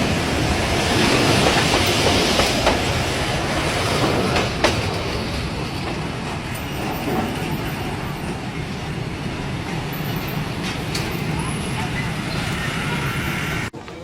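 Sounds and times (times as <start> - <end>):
rail clacks: 0.0 - 14.0
train wheels rumbling on rails: 0.0 - 14.0.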